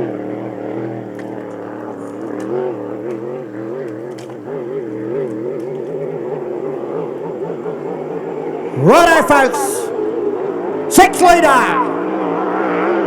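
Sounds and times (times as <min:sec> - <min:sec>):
racing boat engine wavering: 0:00.0 - 0:13.0.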